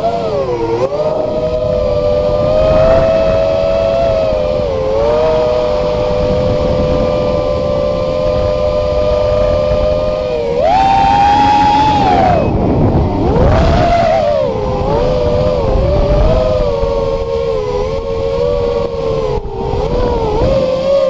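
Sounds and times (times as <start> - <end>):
rush of air: 0.0 - 20.6
drone motors whining: 0.0 - 21.0.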